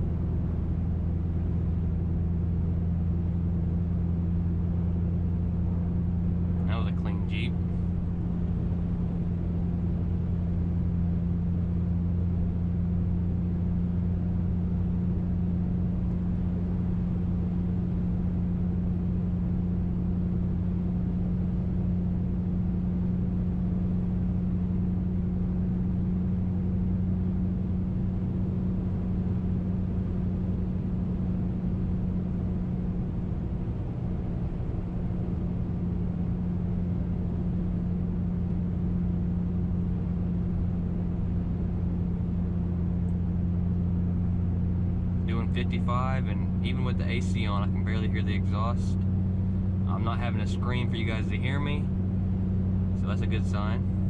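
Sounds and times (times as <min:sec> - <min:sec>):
low exhaust drone: 0:00.0 - 0:54.0
road noise: 0:00.0 - 0:54.0.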